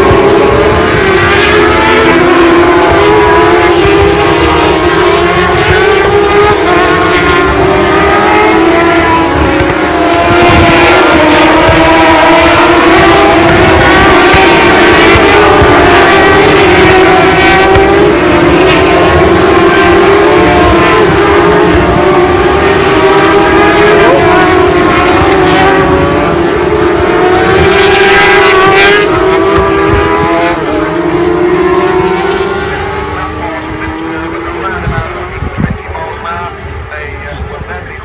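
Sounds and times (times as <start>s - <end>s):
racing motorcycle engines revving: 0.0s - 38.0s.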